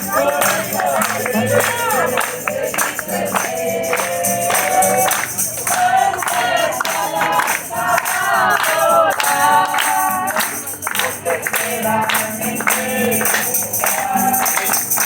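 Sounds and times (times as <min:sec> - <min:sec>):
group singing a hymn: 0:00.0 - 0:15.0
tambourine beat: 0:00.0 - 0:15.0.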